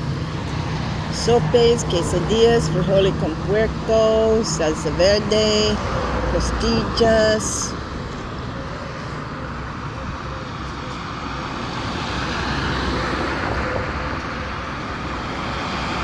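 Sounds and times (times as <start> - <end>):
passing vehicles rushing: 0.0 - 16.0.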